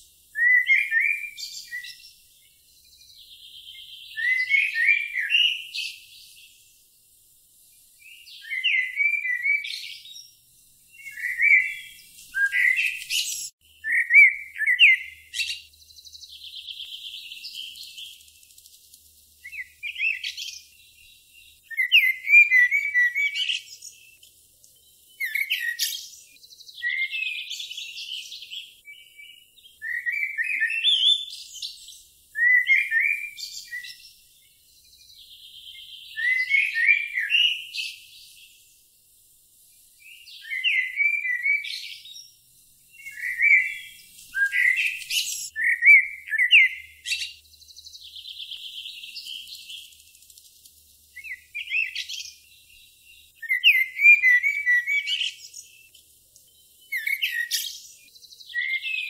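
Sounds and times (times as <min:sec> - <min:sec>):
songbird warbling: 0:00.0 - 0:06.6, 0:08.0 - 0:10.3, 0:10.9 - 0:18.8, 0:19.4 - 0:24.2, 0:25.1 - 0:38.5, 0:40.0 - 0:42.3, 0:42.9 - 0:50.5, 0:51.1 - 0:56.0, 0:56.6 - 0:59.0.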